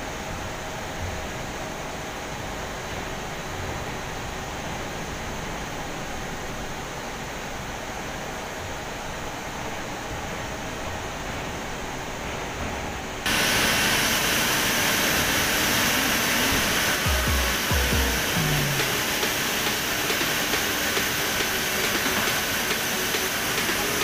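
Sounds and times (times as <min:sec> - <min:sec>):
faint steady whine: 0:00.0 - 0:24.0
hiss of steam and machinery: 0:00.0 - 0:24.0
room hum: 0:00.0 - 0:24.0.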